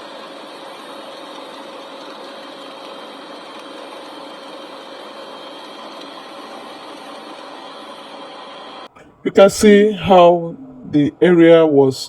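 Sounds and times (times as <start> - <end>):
faint steady tones: 0.0 - 12.0.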